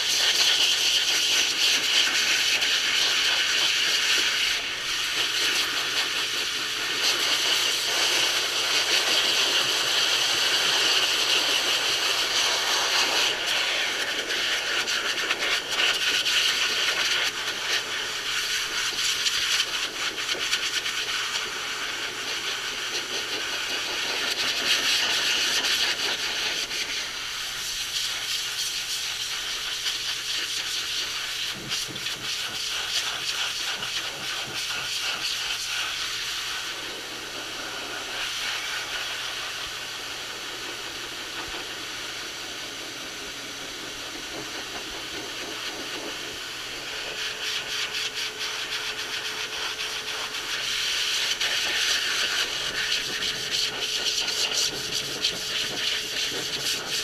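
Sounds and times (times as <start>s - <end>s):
pet dryer blowing air: 0.0s - 57.0s.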